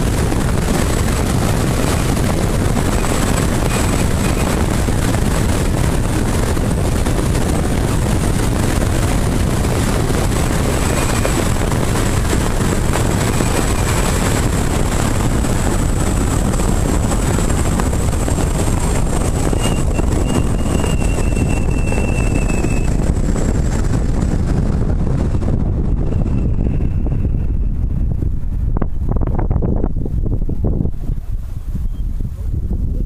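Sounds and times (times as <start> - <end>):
low road rumble: 0.0 - 33.0
wind rushing over microphone: 0.0 - 33.0.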